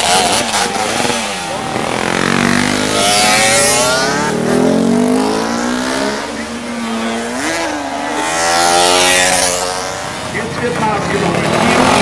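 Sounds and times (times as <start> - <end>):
motorcycle engines passing: 0.0 - 12.0.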